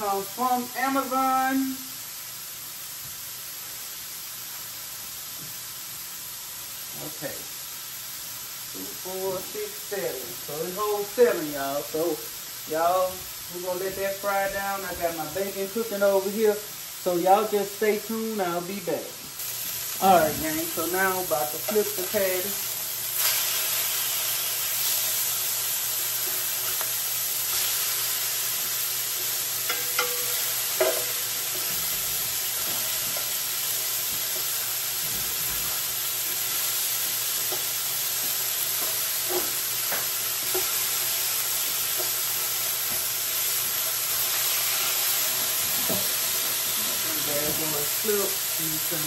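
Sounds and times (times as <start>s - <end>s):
patties sizzling in a pot: 0.0s - 49.0s.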